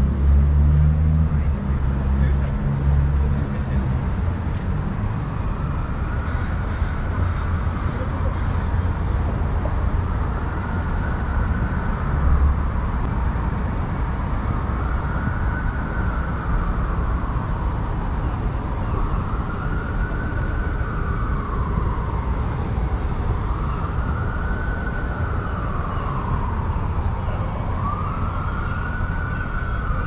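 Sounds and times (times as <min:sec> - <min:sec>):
low city rumble: 0:00.0 - 0:30.0
siren wailing: 0:03.0 - 0:13.0, 0:14.3 - 0:30.0.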